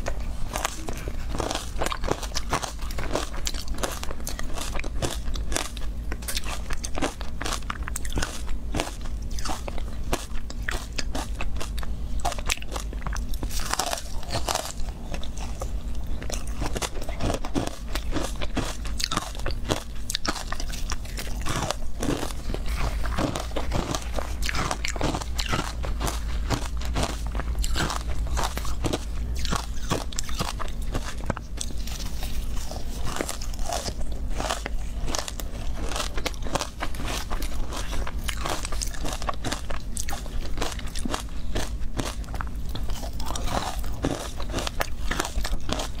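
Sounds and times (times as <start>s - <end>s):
chewing crunchy ice: 0.0s - 46.0s.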